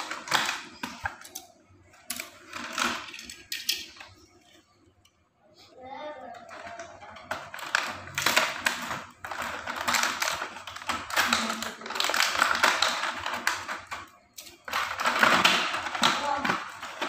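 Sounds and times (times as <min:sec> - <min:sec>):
plastic toy track clattering: 0:00.0 - 0:01.5, 0:02.1 - 0:04.1, 0:06.4 - 0:17.0.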